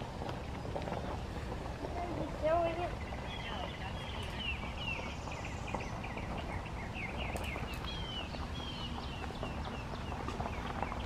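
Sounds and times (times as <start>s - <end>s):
steady low rumble: 0.0s - 11.0s
birds chirping and whistling: 0.5s - 11.0s.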